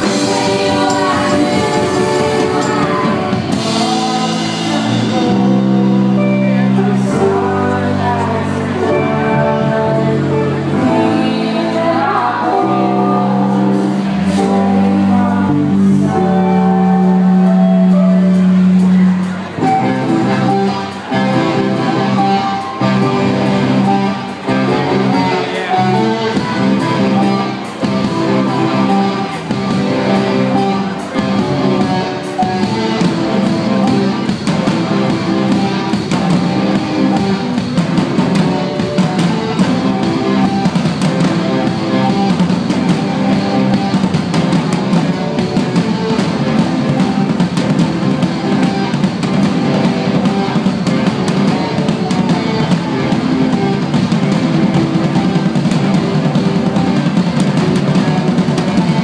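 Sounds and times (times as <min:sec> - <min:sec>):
live band playing: 0:00.0 - 0:59.0.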